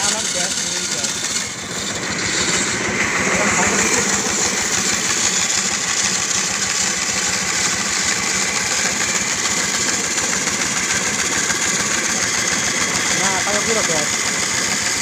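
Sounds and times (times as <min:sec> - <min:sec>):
bandsaw running: 0:00.0 - 0:15.0.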